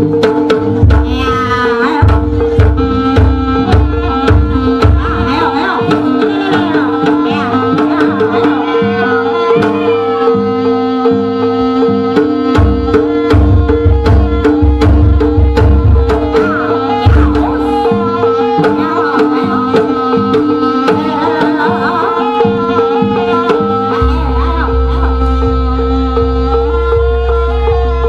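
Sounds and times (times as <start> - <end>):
hand drums: 0.0 - 28.0
wavering melody line: 0.9 - 28.0.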